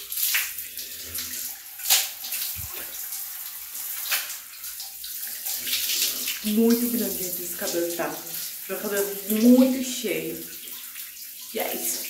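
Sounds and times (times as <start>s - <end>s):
sharp water splashes: 0.0s - 12.0s
shower water spraying: 0.0s - 12.0s.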